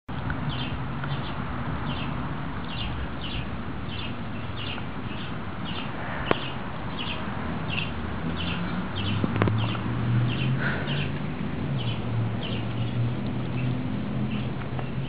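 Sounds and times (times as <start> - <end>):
bird chirping: 0.5 - 11.2, 11.8 - 15.0.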